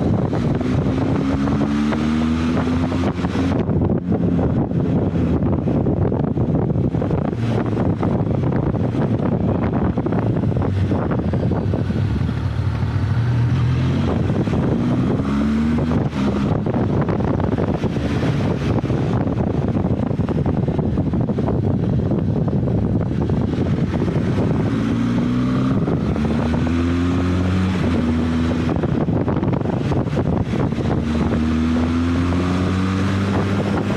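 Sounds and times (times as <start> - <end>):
motorcycle engine accelerating: 0.0 - 33.9
wind buffeting microphone: 0.0 - 33.9.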